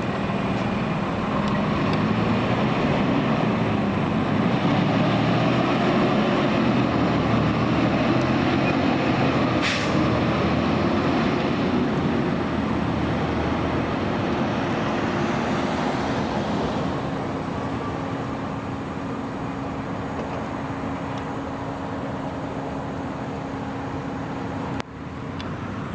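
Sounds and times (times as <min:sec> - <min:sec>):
fire truck driving off: 0:00.0 - 0:25.9.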